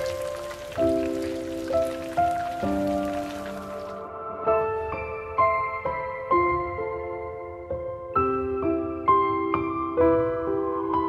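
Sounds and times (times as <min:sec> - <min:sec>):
slow keyboard melody: 0:00.0 - 0:11.0.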